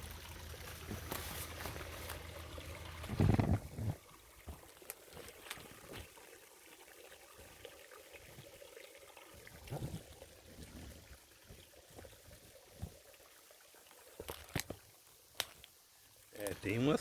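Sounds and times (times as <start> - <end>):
faint stream trickling: 0.0 - 17.0.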